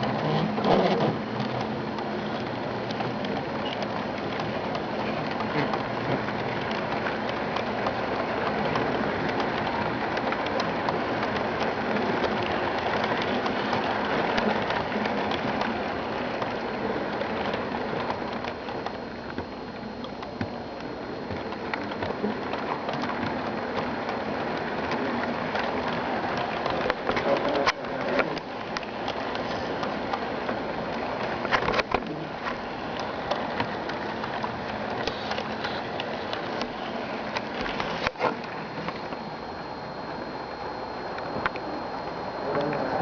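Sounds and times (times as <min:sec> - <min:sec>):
model train wheels rattling on track: 0:00.0 - 0:36.7.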